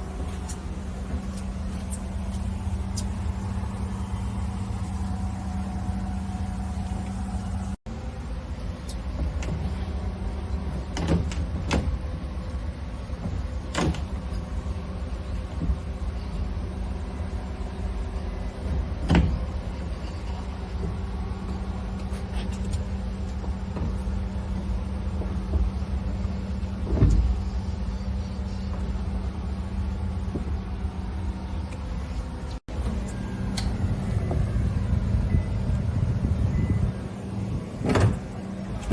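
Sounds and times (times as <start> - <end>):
boat engine idling: 0.0 - 38.9.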